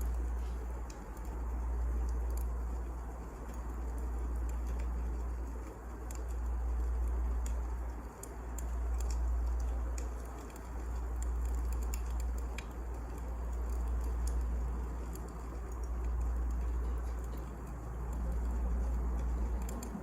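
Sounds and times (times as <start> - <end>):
burning logs crackling and popping: 0.0 - 20.0
fire flames rumbling: 0.0 - 20.0.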